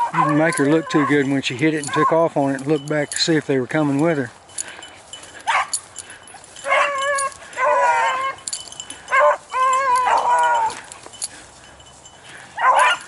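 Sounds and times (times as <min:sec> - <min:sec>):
hounds baying: 0:00.0 - 0:03.4, 0:04.5 - 0:13.0.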